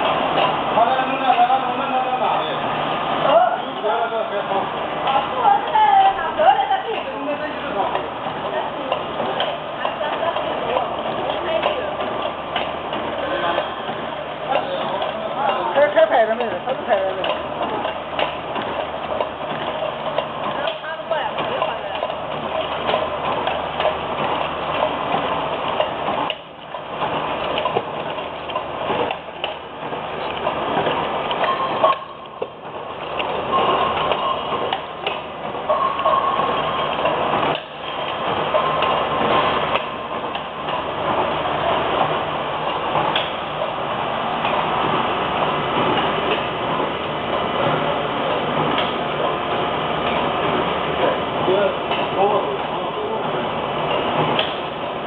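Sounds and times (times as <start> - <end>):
machinery clattering: 0.0 - 55.0.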